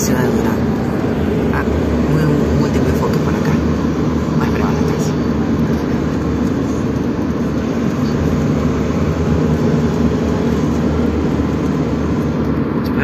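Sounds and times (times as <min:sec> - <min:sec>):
road and wind noise in vehicle: 0:00.0 - 0:13.0.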